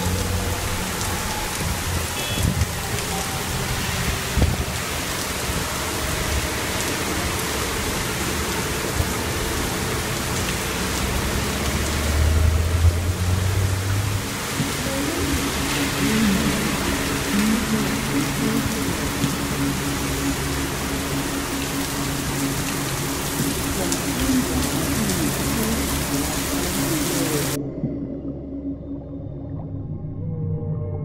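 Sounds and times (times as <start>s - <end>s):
heavy rain pouring: 0.0s - 27.6s.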